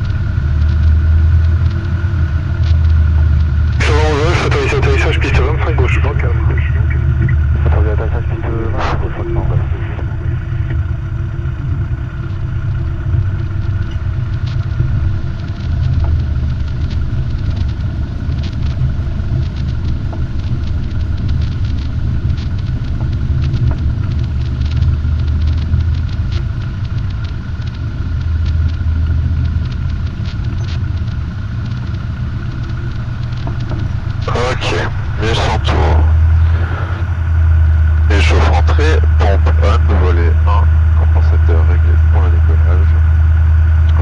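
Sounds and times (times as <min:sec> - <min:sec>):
light aircraft engine droning: 0:00.0 - 0:44.0.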